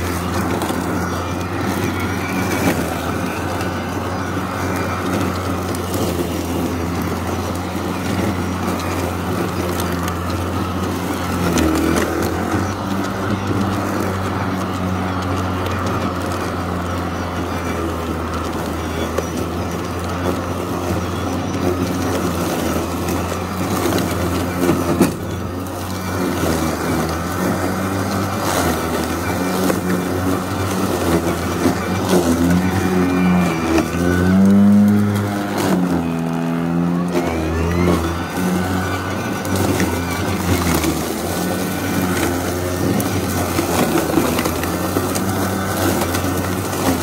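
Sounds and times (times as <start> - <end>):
electric lawnmower whirring: 0.0 - 47.0.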